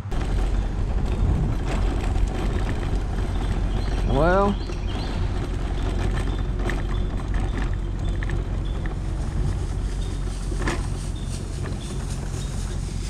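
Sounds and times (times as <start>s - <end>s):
tyre noise on asphalt: 0.0s - 13.0s
wind on microphone: 0.0s - 13.0s.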